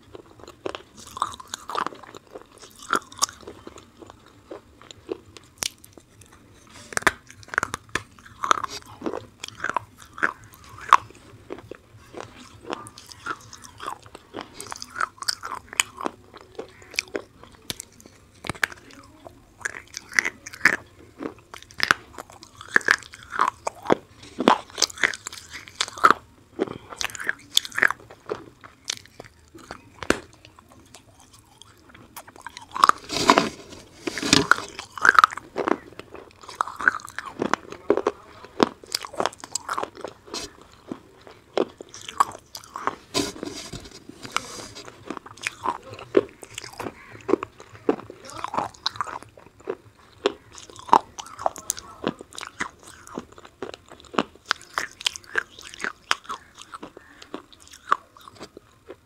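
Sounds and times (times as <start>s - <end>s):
crunchy biting and chewing: 0.0s - 59.0s.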